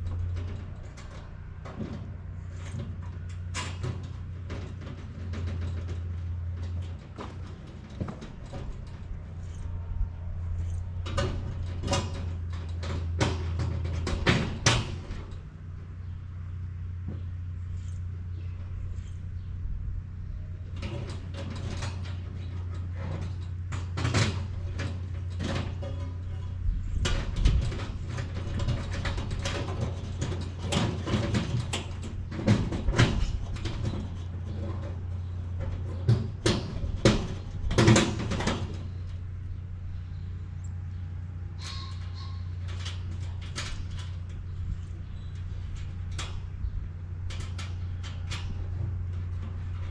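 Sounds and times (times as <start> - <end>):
metal panels clicking and rattling: 0.0 - 49.9
steady low hum: 0.0 - 49.9.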